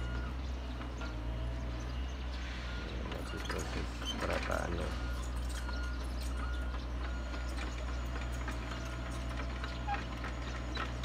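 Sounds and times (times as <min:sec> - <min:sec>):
excavator diesel engine: 0:00.0 - 0:11.0.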